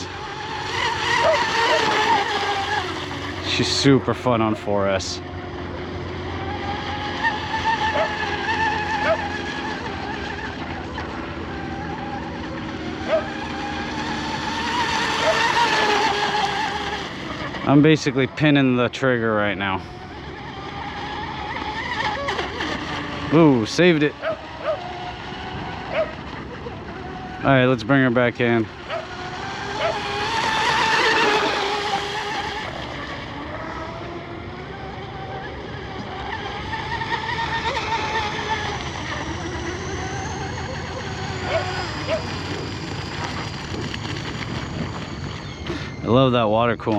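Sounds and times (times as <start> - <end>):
electric boat motor whine: 0.0 - 46.9.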